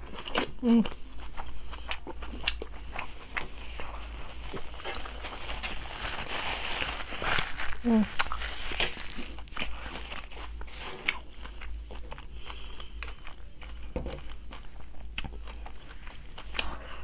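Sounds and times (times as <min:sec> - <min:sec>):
person chewing and crunching food: 0:00.0 - 0:17.0.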